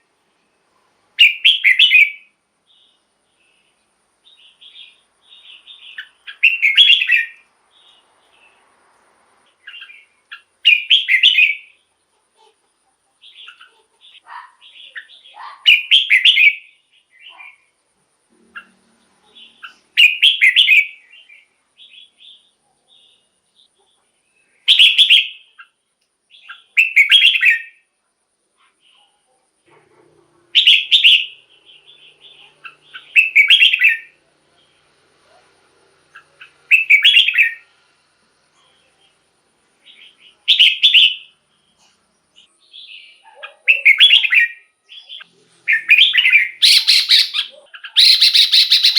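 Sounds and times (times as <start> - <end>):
soft bird chirps: 0.0 - 28.0, 28.6 - 48.9
bird singing warbled phrases: 1.2 - 8.6, 9.5 - 17.8, 18.4 - 27.9, 30.5 - 34.9, 36.1 - 37.7, 38.5 - 48.9.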